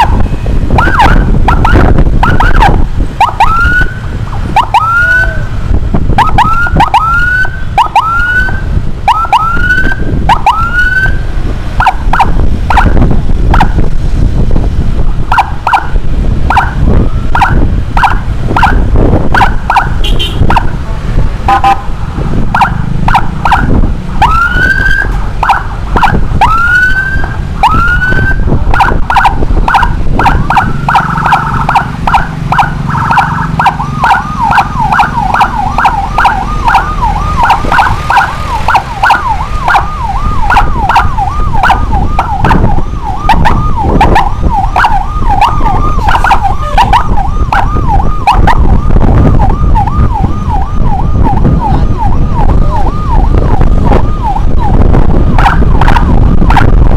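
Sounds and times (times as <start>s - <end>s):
electronic siren whooping: 0.0s - 13.8s, 15.2s - 20.8s, 21.5s - 56.9s
wind and road rumble: 0.0s - 56.9s.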